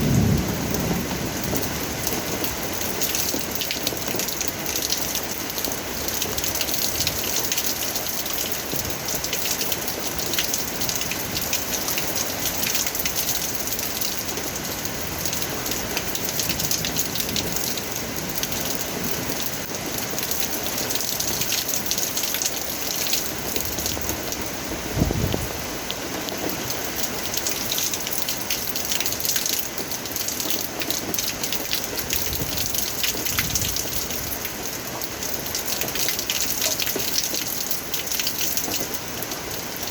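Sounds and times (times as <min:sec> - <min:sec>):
rain patter on a surface: 0:00.0 - 0:39.9.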